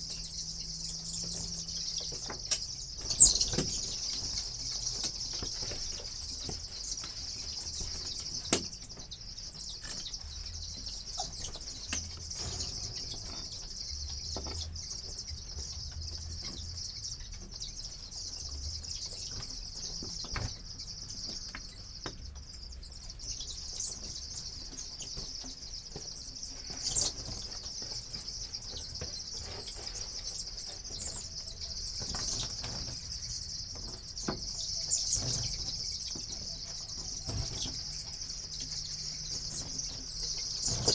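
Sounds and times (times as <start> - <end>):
chickens peeping: 0.0 - 40.9.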